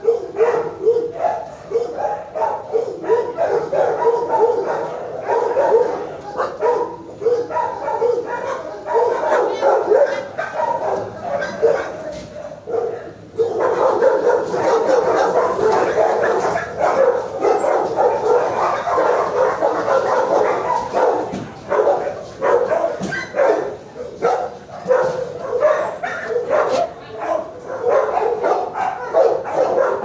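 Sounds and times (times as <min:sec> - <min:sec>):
dogs barking: 0:00.0 - 0:30.0.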